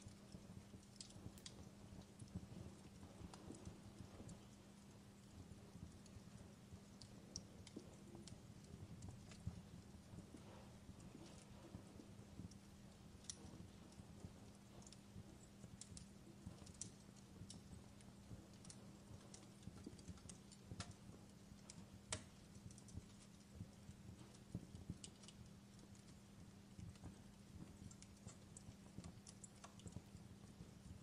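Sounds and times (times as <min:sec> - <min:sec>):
faint low hum: 0:00.0 - 0:31.0
fireplace crackling: 0:00.0 - 0:31.0.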